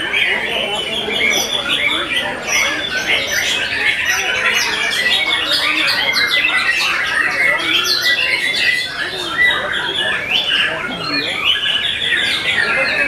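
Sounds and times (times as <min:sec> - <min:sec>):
birds singing in chorus: 0:00.0 - 0:13.0.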